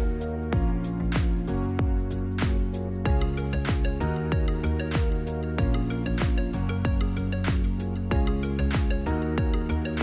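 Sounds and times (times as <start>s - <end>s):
kick drum beat: 0.0s - 9.9s.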